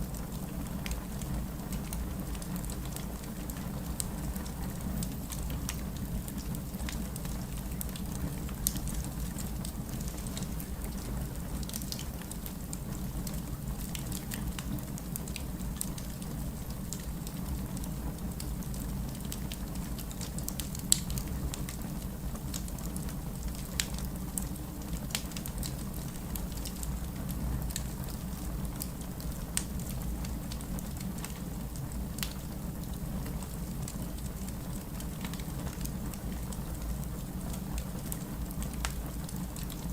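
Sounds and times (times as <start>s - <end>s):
fireplace crackling: 0.0s - 39.9s
steady rain: 0.0s - 39.9s.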